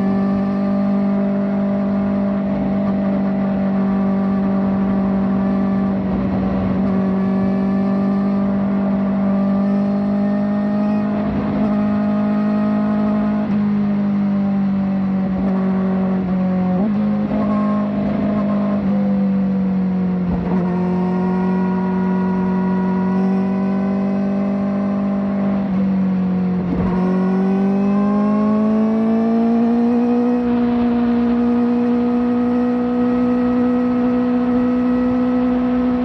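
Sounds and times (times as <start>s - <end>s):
motorcycle engine revving high: 0.0s - 36.0s.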